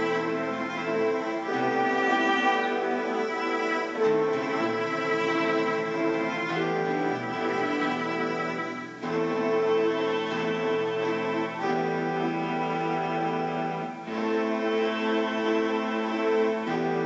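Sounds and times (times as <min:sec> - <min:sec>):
ambient looped cello music: 0:00.0 - 0:17.0.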